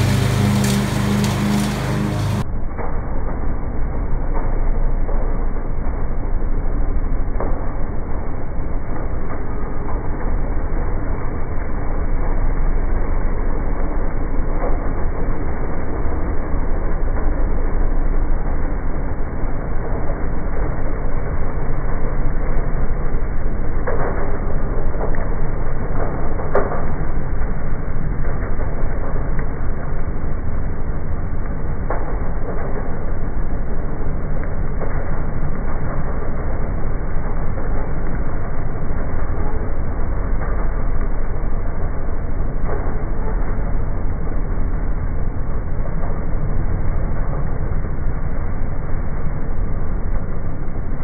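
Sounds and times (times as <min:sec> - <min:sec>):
ride-on lawn mower rumbling: 0:00.0 - 0:51.0.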